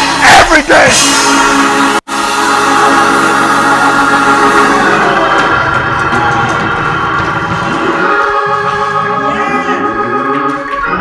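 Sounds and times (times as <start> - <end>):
organ playing sustained chords: 0.0 - 11.0.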